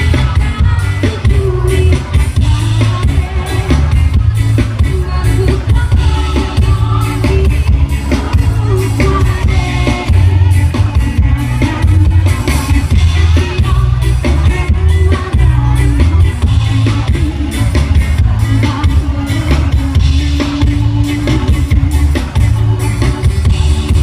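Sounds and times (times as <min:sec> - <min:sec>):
heavy bass: 0:00.0 - 0:24.0
live band with singing: 0:00.0 - 0:24.0
steady drum beat: 0:00.0 - 0:24.0.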